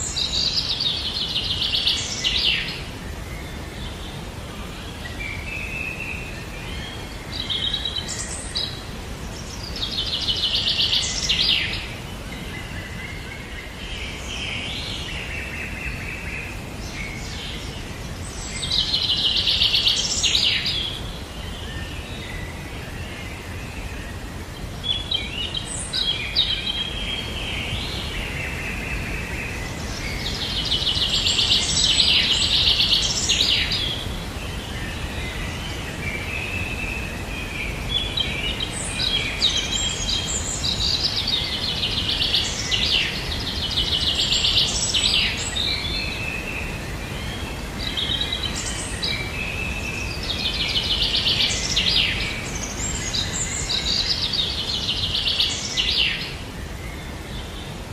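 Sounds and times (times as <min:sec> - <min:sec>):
low background noise: 0:00.0 - 0:57.9
songbirds singing: 0:00.0 - 0:57.9.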